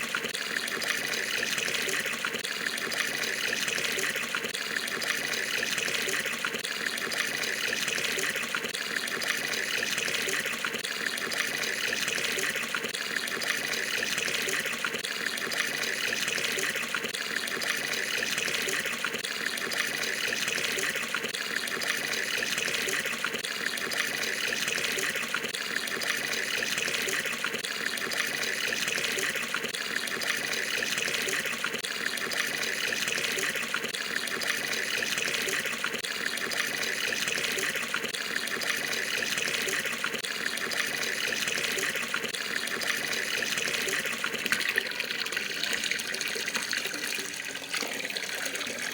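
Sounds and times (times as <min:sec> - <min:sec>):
tap water pouring into tub: 0:00.0 - 0:48.9.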